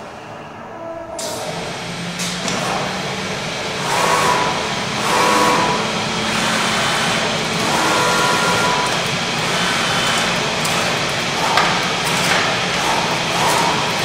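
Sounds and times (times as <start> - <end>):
flatbed cutter whirring: 1.8 - 14.0.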